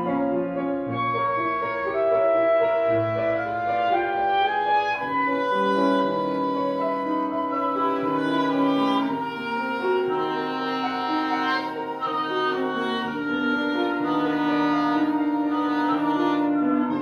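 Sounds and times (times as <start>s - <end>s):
wind quintet playing chamber music: 0.0s - 17.0s.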